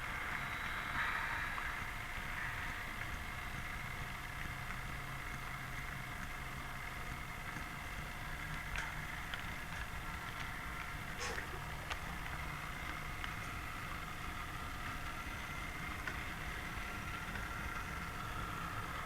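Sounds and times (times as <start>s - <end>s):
model train motor hum: 0.0s - 19.0s
wheels rumbling on track: 0.0s - 19.0s.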